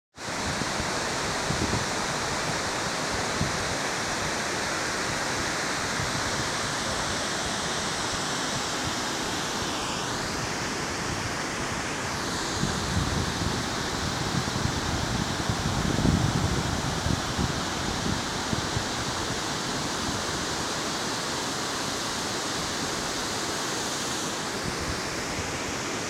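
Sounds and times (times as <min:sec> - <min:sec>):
river water rushing over weir: 0:00.2 - 0:26.0.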